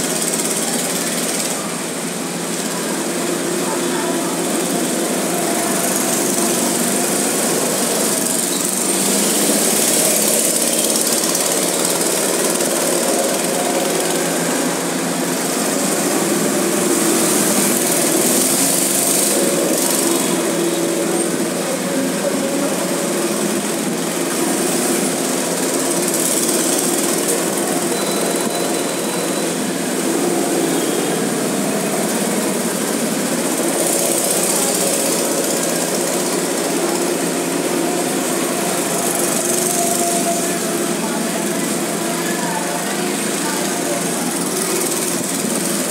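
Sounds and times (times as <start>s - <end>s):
go-kart engines passing: 0.0s - 45.9s.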